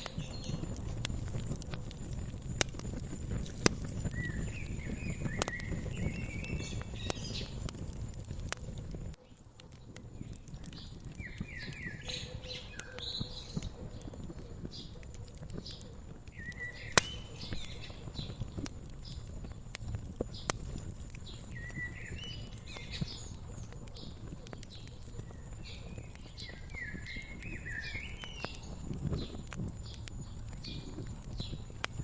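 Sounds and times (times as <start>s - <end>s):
songbirds chirping: 0.0s - 32.0s
wood fire crackling and popping: 0.0s - 32.0s.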